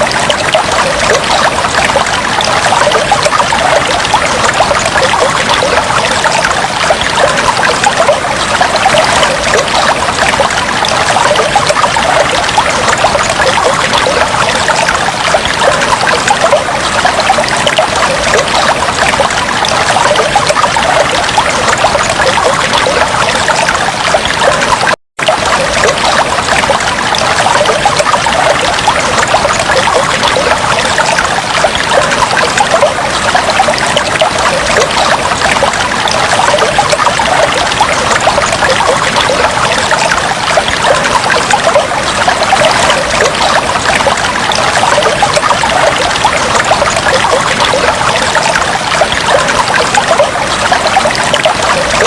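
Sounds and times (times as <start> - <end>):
water trickling and bubbling: 0.0 - 52.0.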